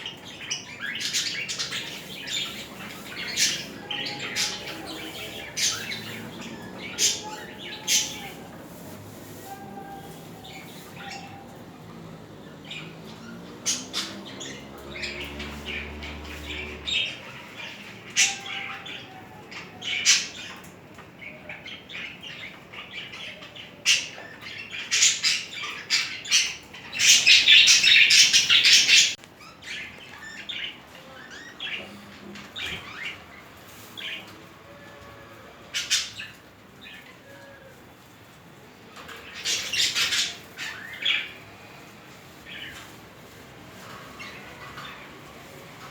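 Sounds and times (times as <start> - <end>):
budgerigars chirping and squawking: 0.0 - 34.3, 35.7 - 37.1, 39.0 - 41.7.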